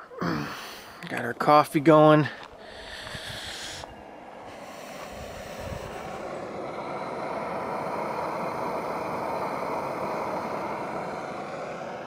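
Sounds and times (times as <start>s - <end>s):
propane burner hissing: 0.0s - 12.0s.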